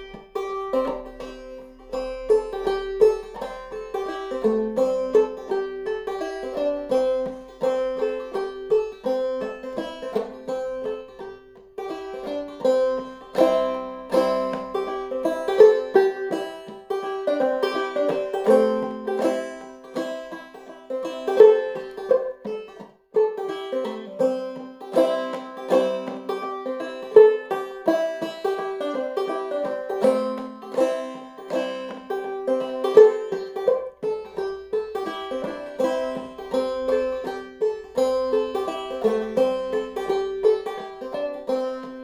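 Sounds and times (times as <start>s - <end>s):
banjo picking: 0.0s - 42.0s.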